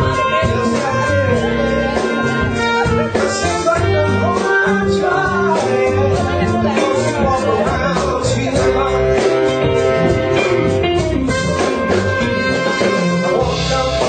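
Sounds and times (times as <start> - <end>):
band music: 0.0 - 14.0
drums: 0.0 - 14.0
guitar playing: 0.0 - 14.0
moving bass line: 0.0 - 14.0.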